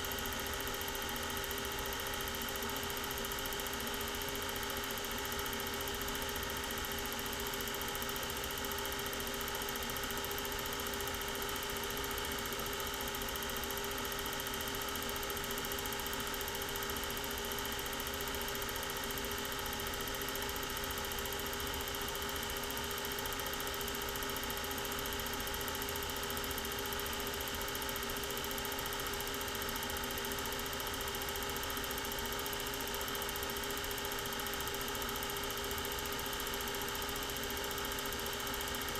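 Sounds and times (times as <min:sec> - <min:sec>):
film projector humming and whirring: 0:00.0 - 0:38.9.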